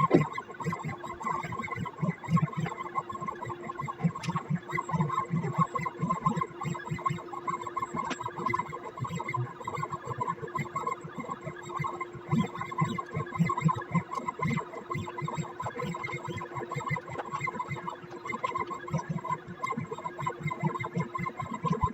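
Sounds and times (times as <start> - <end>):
pen plotter stepper motors whining: 0.0 - 21.9.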